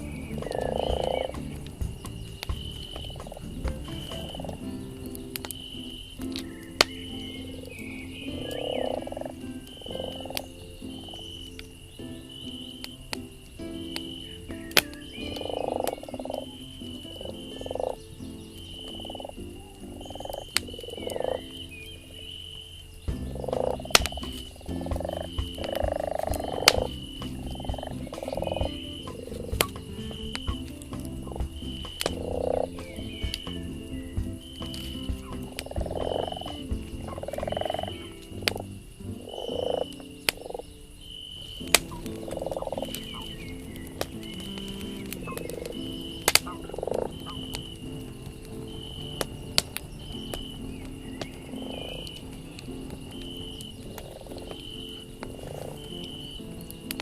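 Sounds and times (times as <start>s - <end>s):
crackling campfire: 0.0s - 57.0s
fire popping: 0.0s - 57.0s
frogs croaking: 0.0s - 57.0s.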